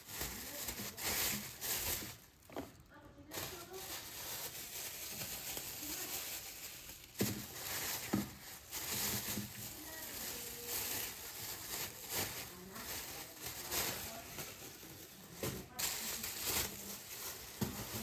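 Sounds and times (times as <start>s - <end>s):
plastic bags rustling: 0.0s - 18.0s.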